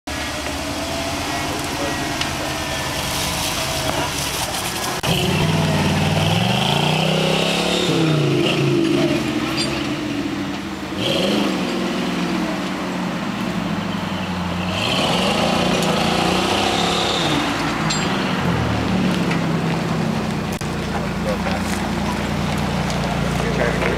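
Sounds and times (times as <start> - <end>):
engine revving: 0.1 - 23.9.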